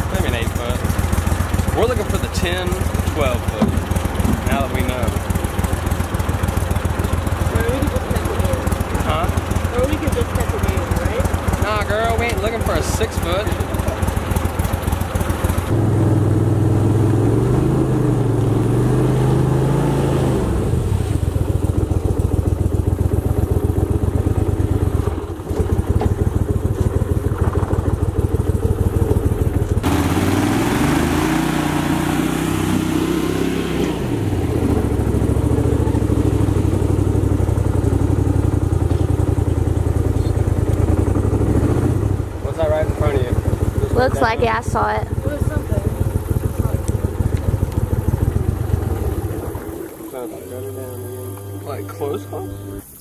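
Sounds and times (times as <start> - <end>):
boat motor running: 0.0 - 53.0.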